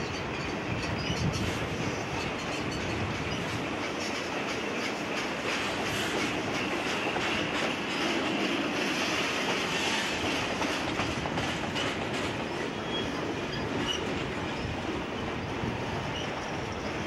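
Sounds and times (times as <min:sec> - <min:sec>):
wheels clicking over rail joints: 0:00.0 - 0:14.7
freight train wheels rumbling: 0:00.0 - 0:17.0.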